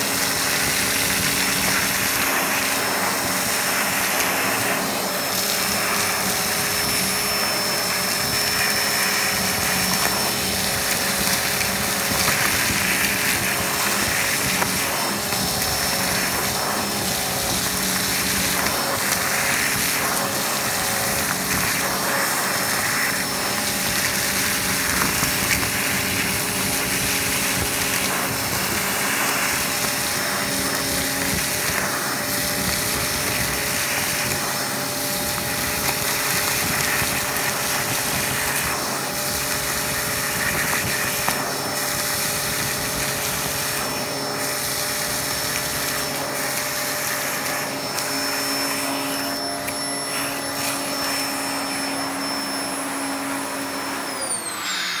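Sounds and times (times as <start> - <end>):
vacuum cleaner running: 0.0 - 55.0
vacuum motor winding down: 0.0 - 55.0.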